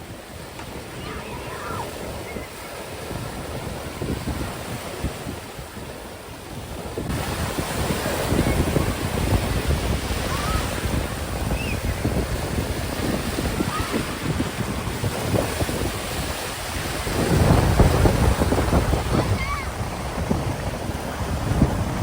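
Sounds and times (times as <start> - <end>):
sea surf washing onto beach: 0.0 - 22.0
wind buffeting microphone: 0.0 - 22.0.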